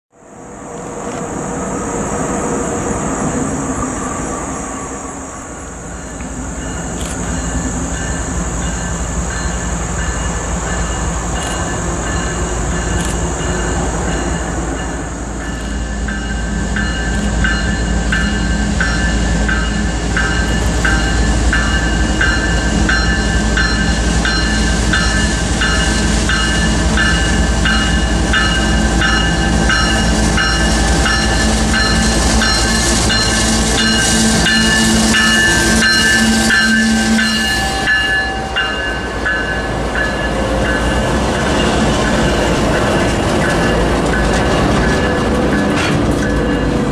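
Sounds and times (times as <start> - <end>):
diesel locomotive engines rumbling: 0.1 - 46.9
locomotive bell ringing: 5.9 - 46.9.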